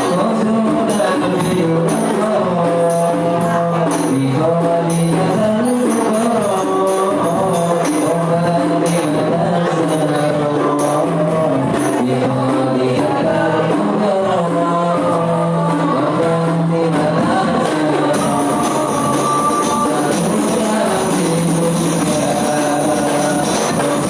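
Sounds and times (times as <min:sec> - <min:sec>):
devotional singing: 0:00.0 - 0:24.0
frame drums beating: 0:00.0 - 0:24.0.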